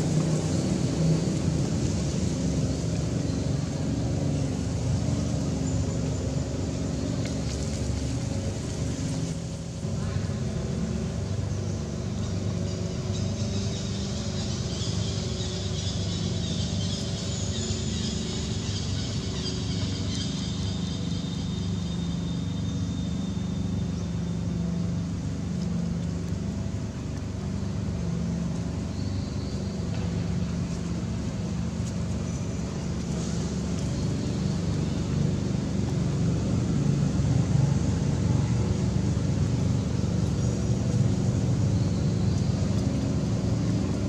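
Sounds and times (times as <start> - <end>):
low rumble with constant hum: 0.0 - 44.0.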